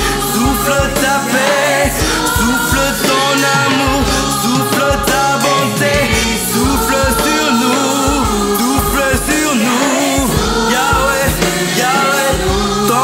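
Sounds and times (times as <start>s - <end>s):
drum kit: 0.0s - 13.0s
man singing: 0.0s - 13.0s.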